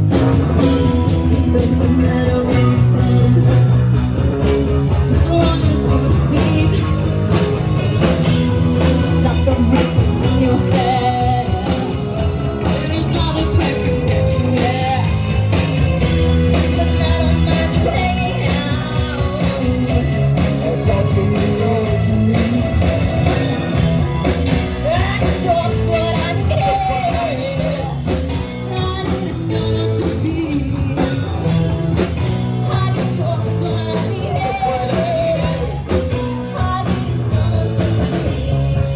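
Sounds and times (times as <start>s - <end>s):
rock music with singing: 0.0s - 38.9s.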